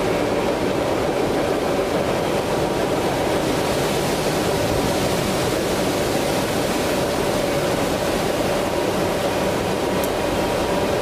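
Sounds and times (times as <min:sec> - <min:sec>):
train rolling past: 0:00.0 - 0:11.0.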